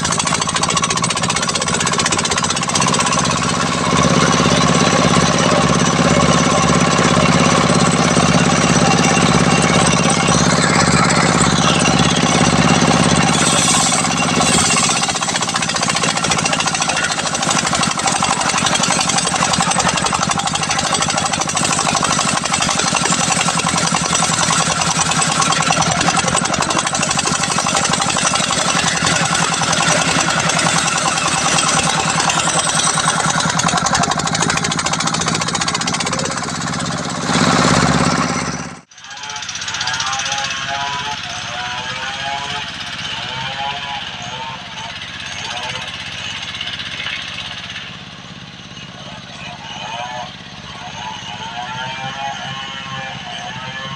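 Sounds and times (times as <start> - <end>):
circular saw ripping log: 0.0 - 44.0
stationary engine running fast: 0.0 - 53.9.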